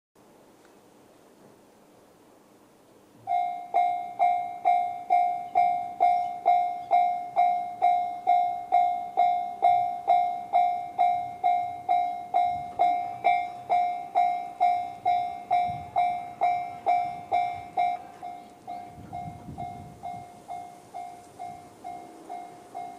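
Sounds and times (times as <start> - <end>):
level crossing bell ringing: 3.3 - 22.9.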